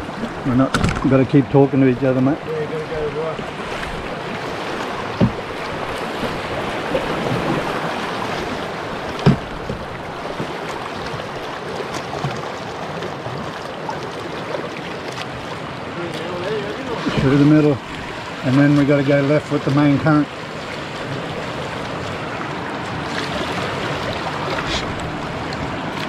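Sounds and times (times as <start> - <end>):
paddles dipping in water: 0.0 - 26.0
river water rushing: 0.0 - 26.0.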